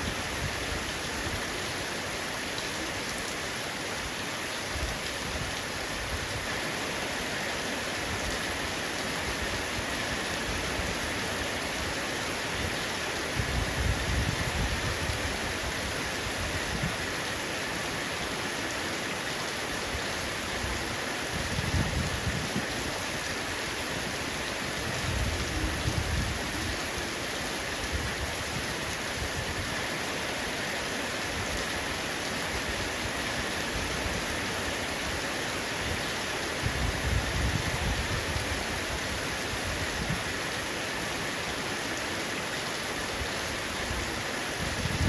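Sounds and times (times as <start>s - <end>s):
heavy rain on a roof: 0.0s - 45.0s.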